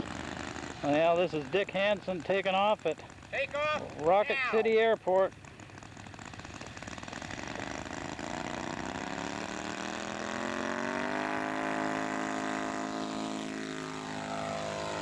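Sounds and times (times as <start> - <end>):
model airplane engine at full throttle: 0.0 - 15.0.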